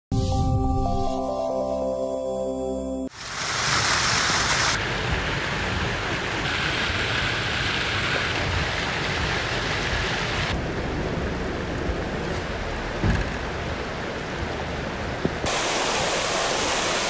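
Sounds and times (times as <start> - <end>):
heavy rain: 3.1 - 17.0
rushing floodwater: 3.2 - 17.0.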